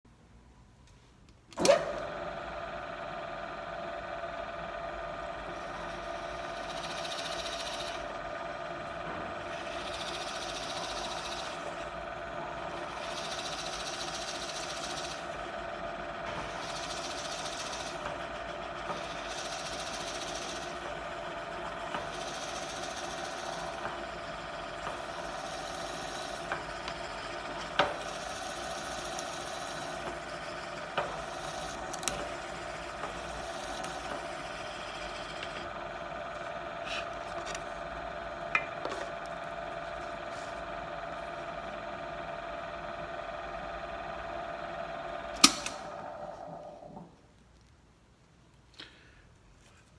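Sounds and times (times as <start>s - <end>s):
drill bit boring into wood: 1.6s - 47.1s
drill press motor running: 1.6s - 47.2s.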